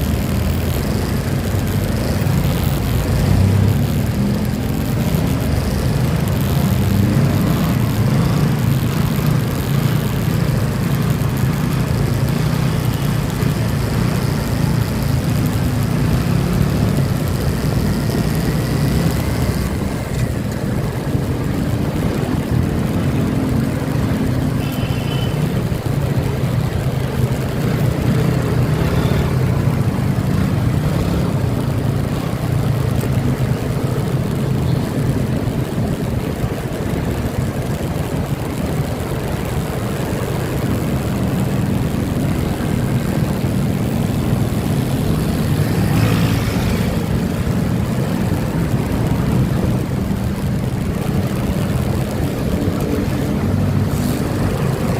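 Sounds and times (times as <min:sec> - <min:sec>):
motorcycle engine running: 0:00.0 - 0:54.9
rushing wind noise: 0:00.0 - 0:54.9.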